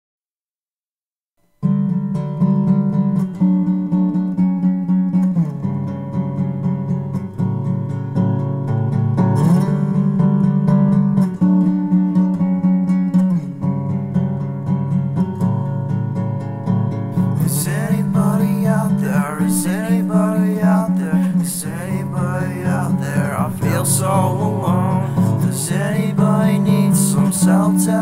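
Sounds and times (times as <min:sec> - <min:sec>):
plucked guitar music: 0:01.4 - 0:28.0.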